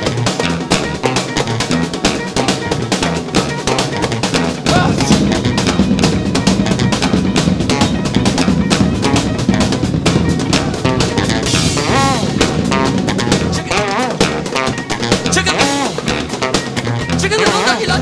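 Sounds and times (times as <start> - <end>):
drum kit pounding beat: 0.0 - 18.0
live rock band playing: 0.0 - 18.0.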